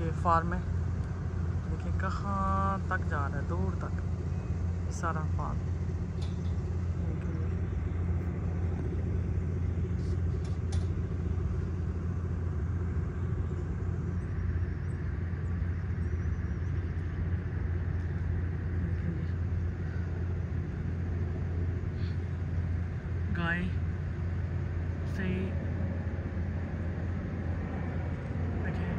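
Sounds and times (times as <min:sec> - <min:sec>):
low outdoor rumble: 0:00.0 - 0:28.9.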